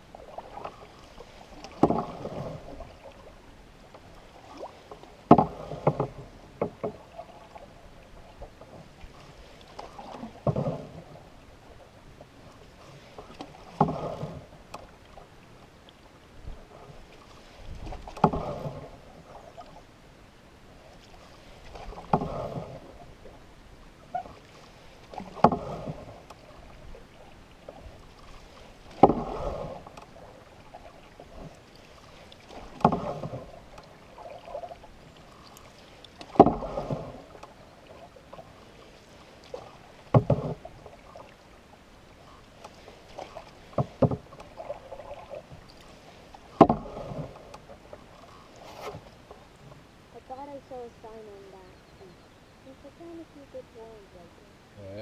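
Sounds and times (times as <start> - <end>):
canoe paddle strokes on water: 0.0 - 54.8.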